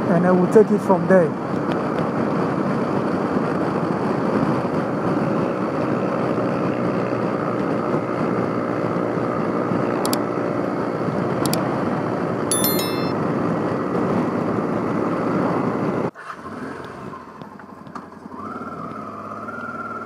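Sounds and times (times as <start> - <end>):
wind and road noise: 0.0 - 12.4, 13.4 - 20.0.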